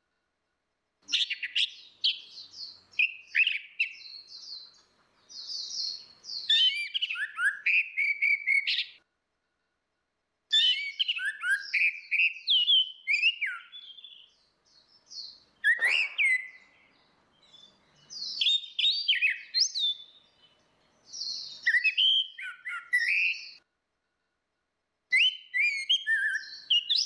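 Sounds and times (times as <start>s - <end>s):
thrush singing whistled notes: 1.1s - 9.0s, 10.5s - 23.6s, 25.1s - 27.0s.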